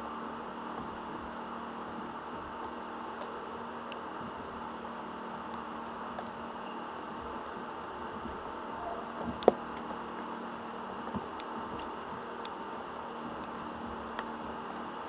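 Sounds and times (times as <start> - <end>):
crackling electrostatic noise: 0.0 - 15.0
sharp static clicks: 0.7 - 15.0.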